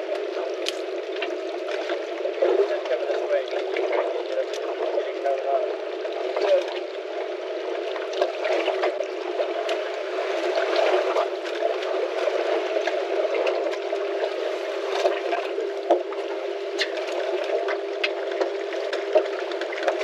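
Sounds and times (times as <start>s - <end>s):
steady hum: 0.0s - 20.0s
water lapping against boat hull: 0.0s - 20.0s.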